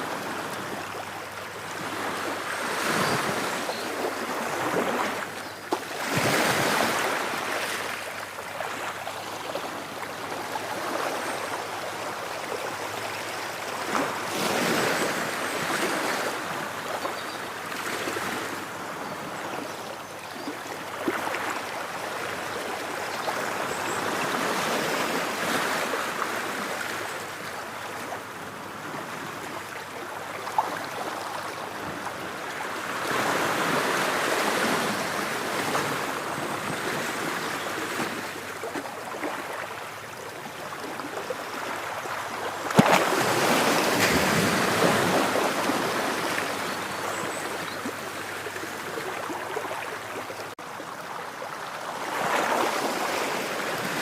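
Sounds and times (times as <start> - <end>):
ocean waves breaking on shore: 0.0 - 19.8, 20.4 - 54.0.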